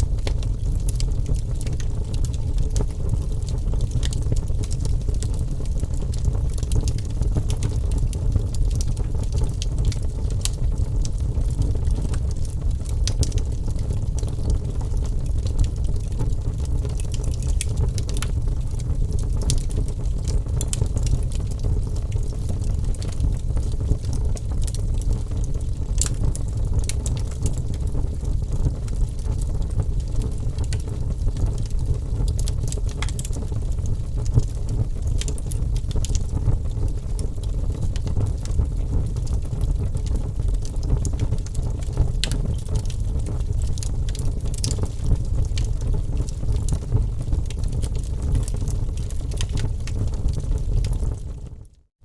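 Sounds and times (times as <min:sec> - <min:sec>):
wood fire crackling and popping: 0:00.0 - 0:51.8
low rumble of burning flames: 0:00.0 - 0:52.0.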